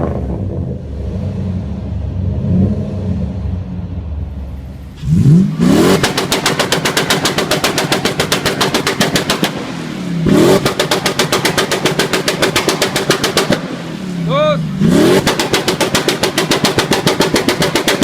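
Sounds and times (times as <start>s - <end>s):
car engine bouncing off rev limiter: 0.0s - 18.0s.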